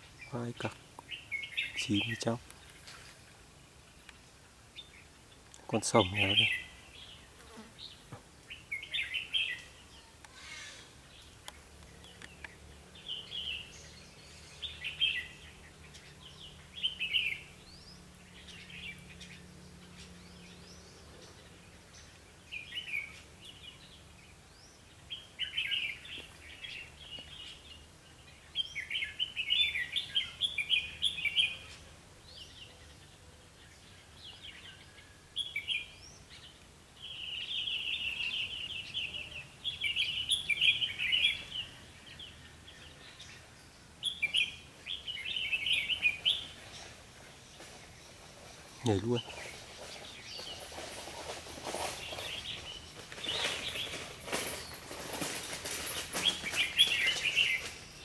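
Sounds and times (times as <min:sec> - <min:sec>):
birds singing: 0:00.0 - 0:58.0.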